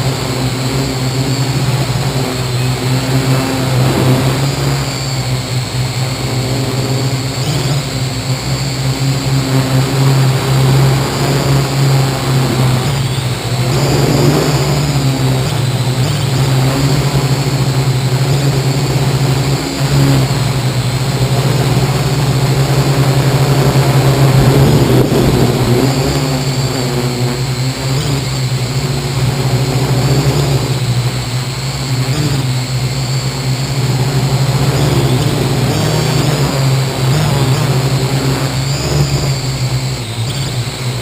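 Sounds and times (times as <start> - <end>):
drone motors humming: 0.0 - 41.0.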